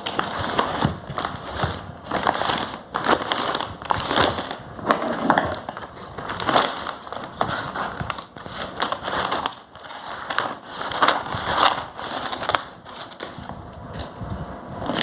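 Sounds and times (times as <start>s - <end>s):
packaging crackling and rustling: 0.0s - 13.6s.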